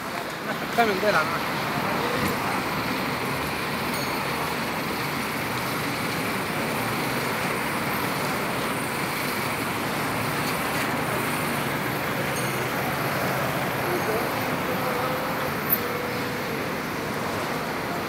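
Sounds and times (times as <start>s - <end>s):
road traffic rush: 0.0s - 18.0s.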